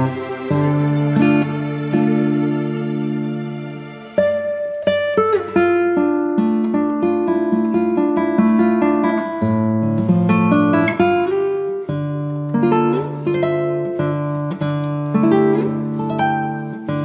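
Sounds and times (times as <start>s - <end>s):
plucked instrumental music: 0.0s - 17.0s.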